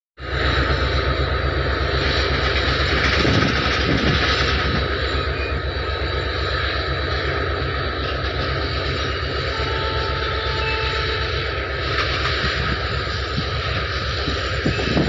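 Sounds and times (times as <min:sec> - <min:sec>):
diesel locomotive engines droning: 0:00.2 - 0:15.0
high whine: 0:00.2 - 0:15.0.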